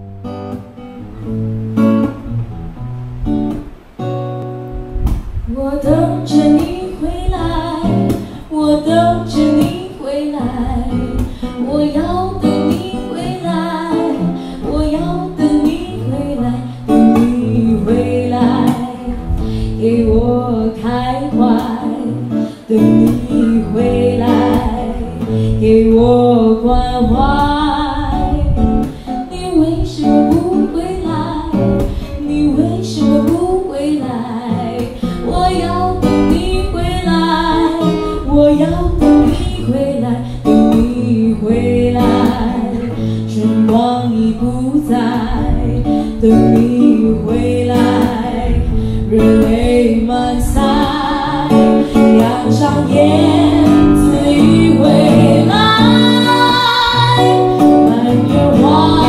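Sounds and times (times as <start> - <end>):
guitar playing: 0.0 - 59.0
woman singing: 5.3 - 59.0.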